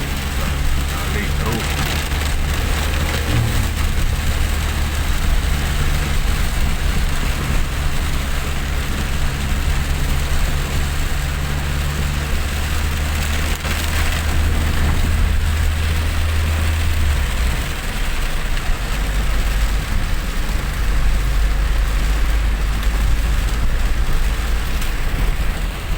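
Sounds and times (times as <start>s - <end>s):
rain and wet tyres hissing: 0.0s - 25.9s
vehicle engine and road drone: 0.0s - 25.9s.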